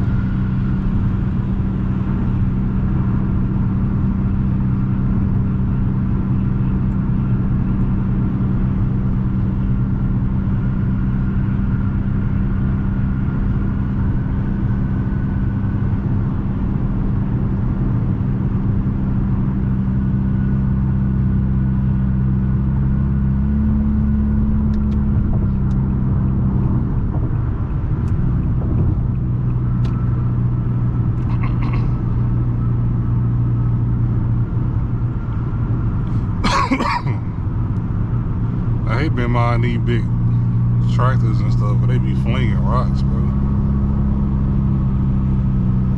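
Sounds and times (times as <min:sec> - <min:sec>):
car exhaust droning: 0:00.0 - 0:45.9.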